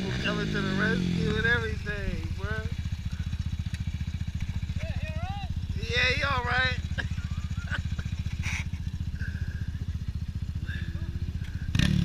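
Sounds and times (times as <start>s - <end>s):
engine puttering at low revs: 0.0s - 12.0s.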